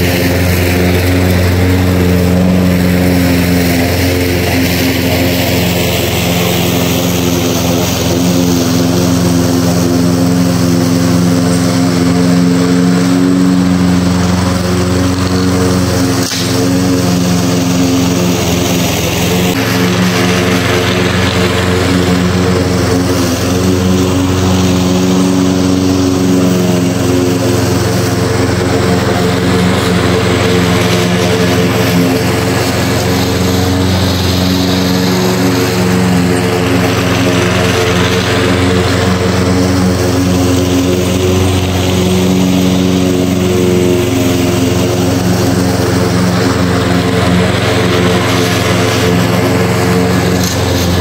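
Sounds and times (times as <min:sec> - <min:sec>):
lawn mower engine running: 0:00.0 - 0:51.0.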